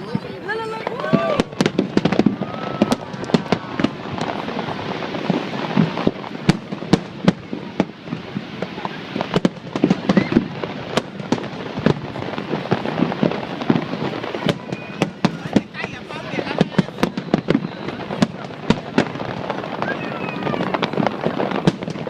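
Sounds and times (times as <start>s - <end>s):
continuous rushing noise: 0.0s - 22.0s
fireworks bangs: 0.0s - 22.0s.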